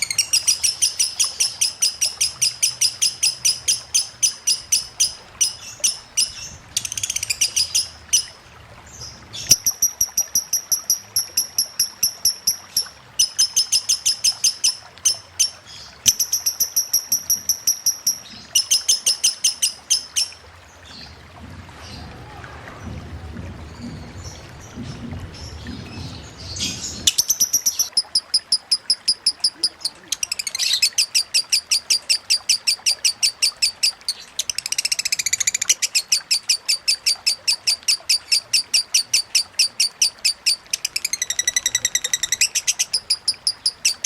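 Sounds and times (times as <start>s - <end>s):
lovebird chattering: 0.0s - 8.4s, 9.4s - 20.4s, 26.6s - 44.0s
faint running water: 0.0s - 44.0s.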